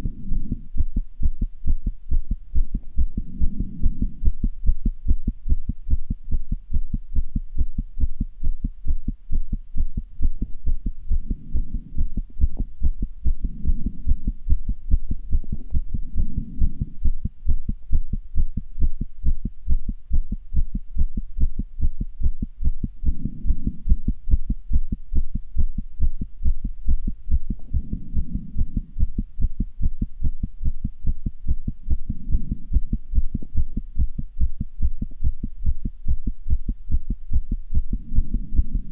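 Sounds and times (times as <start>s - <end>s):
soft low swells: 0.0s - 7.0s, 9.7s - 19.4s, 22.6s - 30.2s, 31.0s - 38.9s
heart beating fast: 0.0s - 38.9s.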